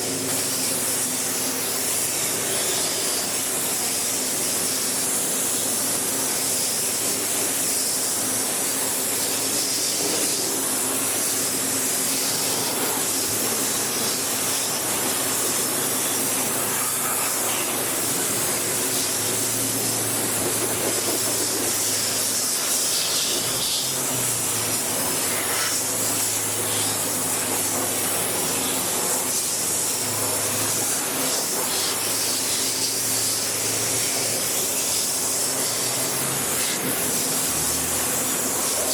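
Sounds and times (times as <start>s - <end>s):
high-pressure water spraying: 0.0s - 38.9s.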